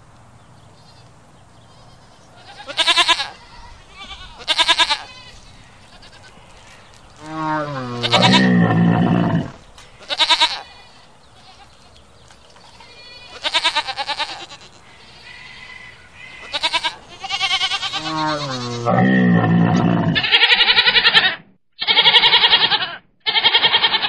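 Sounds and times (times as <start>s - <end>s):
goat bleating: 1.7s - 11.9s, 12.7s - 24.0s.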